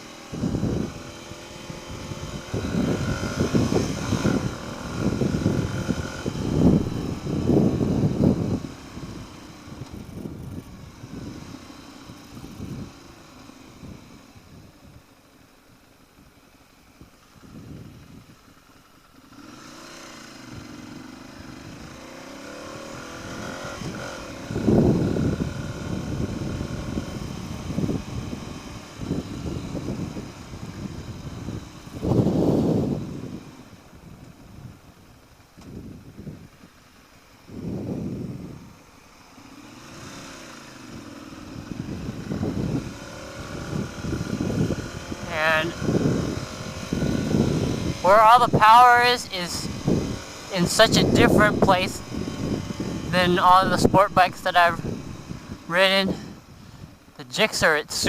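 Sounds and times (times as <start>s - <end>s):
wind noise on microphone: 0.0s - 13.0s, 13.7s - 15.1s, 17.4s - 18.4s, 22.8s - 36.9s, 37.5s - 38.8s, 40.8s - 58.0s
motorcycle engine accelerating: 0.0s - 58.0s.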